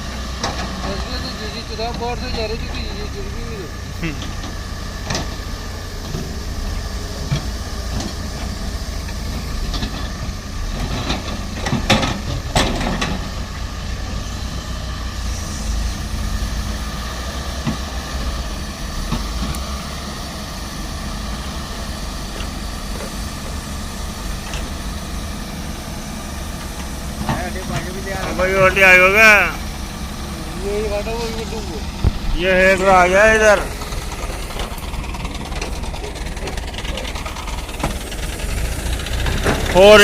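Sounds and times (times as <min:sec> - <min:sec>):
diesel machinery rumbling: 0:00.0 - 0:40.0.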